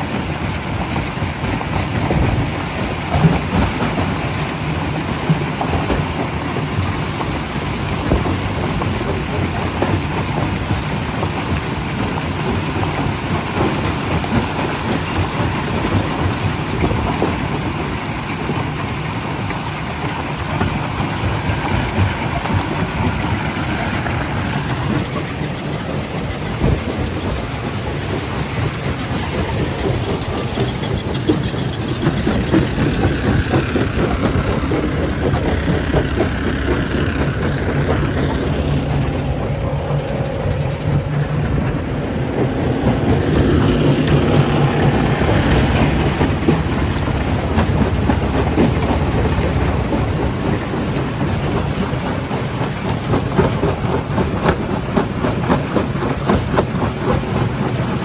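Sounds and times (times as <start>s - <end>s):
machinery rumble: 0.0s - 58.0s.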